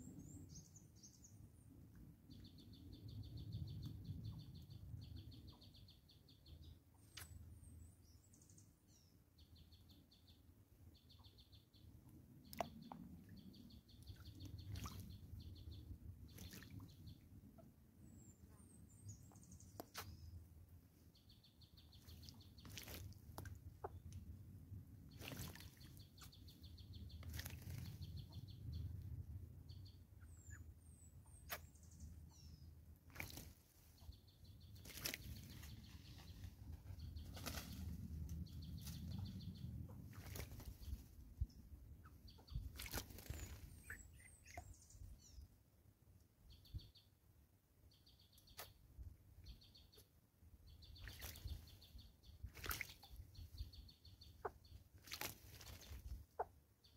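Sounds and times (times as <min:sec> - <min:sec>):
small birds chirping: 0:00.0 - 0:45.6, 0:46.3 - 0:47.2, 0:47.8 - 0:56.9.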